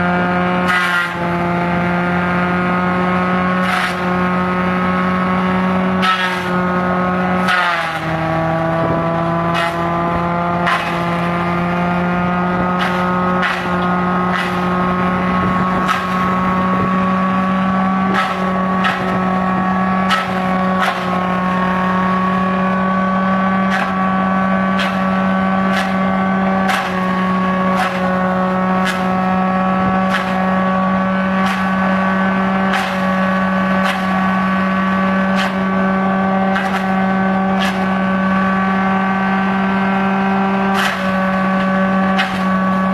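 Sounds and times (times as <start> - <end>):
blades chopping with sharp knocks: 0.0 - 42.9
crusher running: 0.0 - 42.9.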